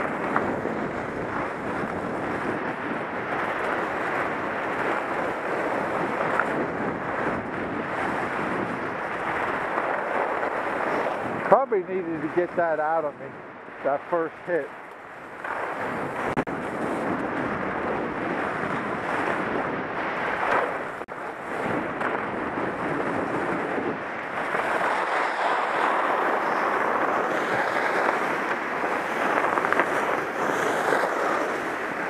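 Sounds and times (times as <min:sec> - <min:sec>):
snowboard scraping over snow: 0:00.0 - 0:32.0
wind rushing across microphone: 0:00.0 - 0:32.0.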